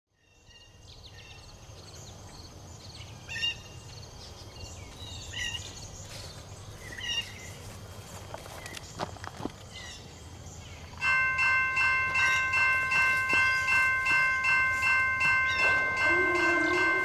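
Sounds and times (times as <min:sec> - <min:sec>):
small birds chirping: 0:00.2 - 0:11.0, 0:12.2 - 0:17.0.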